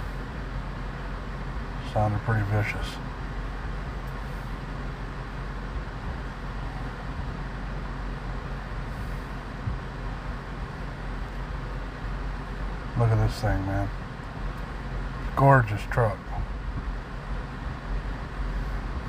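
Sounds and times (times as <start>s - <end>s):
distant vehicle traffic: 0.0s - 19.0s.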